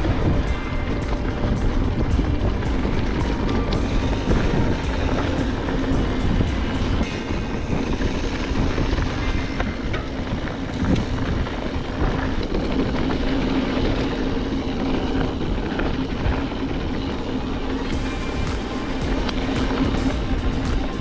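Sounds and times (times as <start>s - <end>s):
bike tyre rumble on dirt: 0.0s - 21.0s
wind rush on microphone: 0.0s - 21.0s.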